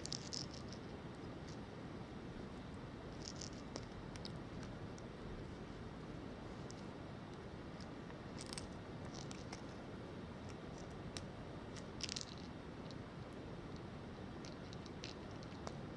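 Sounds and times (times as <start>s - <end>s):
steady low hiss: 0.0s - 15.9s.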